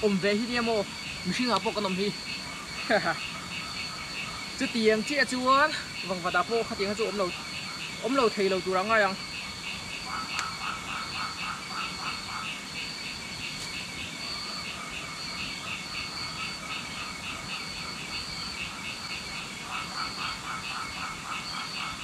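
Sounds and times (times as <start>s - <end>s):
frogs calling: 0.0s - 22.0s.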